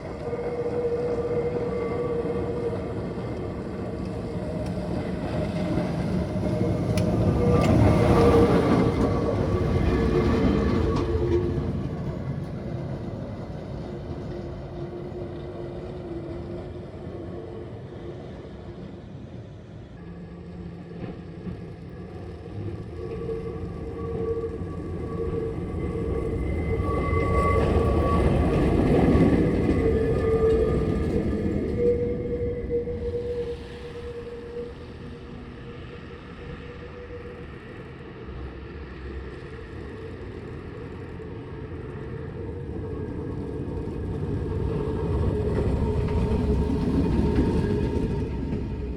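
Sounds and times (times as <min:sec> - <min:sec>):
tram rumbling on rails: 0:00.0 - 0:48.9.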